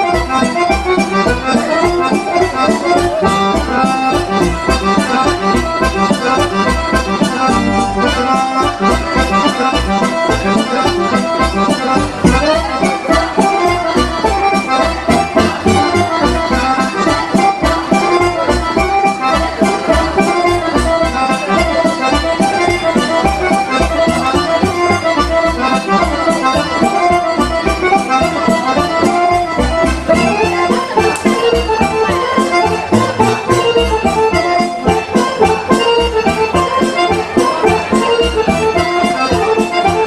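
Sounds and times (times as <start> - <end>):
folk dance music with accordion: 0.0 - 40.0.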